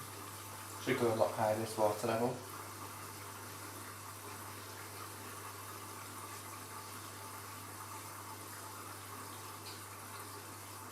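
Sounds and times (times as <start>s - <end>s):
water rushing into washing machine: 0.0s - 10.9s.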